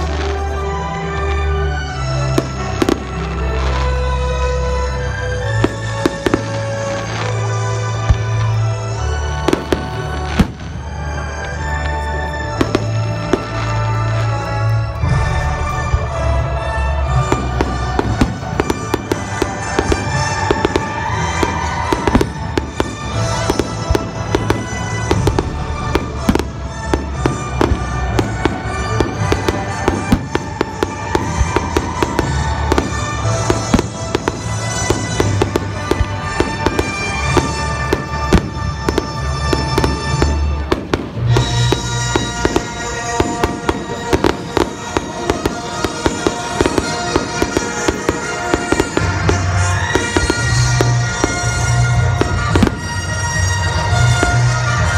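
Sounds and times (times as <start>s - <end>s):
fireworks bursting: 0.0s - 54.9s
loud music: 0.0s - 54.9s.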